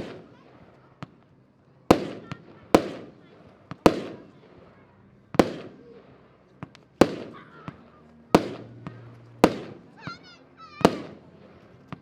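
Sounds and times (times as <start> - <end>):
firework bangs echoing: 0.0 - 12.0.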